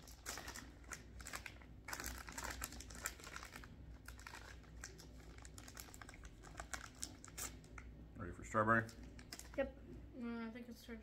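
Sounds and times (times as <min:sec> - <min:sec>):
plastic bag crinkling: 0:00.0 - 0:07.8, 0:08.5 - 0:09.7.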